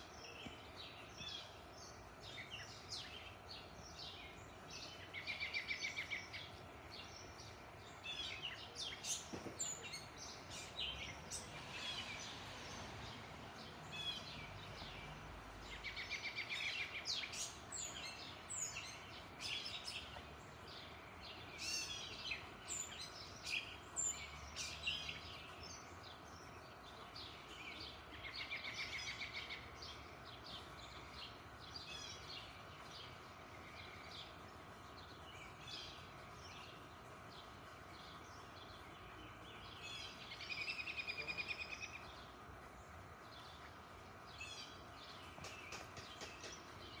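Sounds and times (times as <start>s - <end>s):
faint background noise: 0.0s - 47.0s
songbirds chirping: 0.0s - 47.0s.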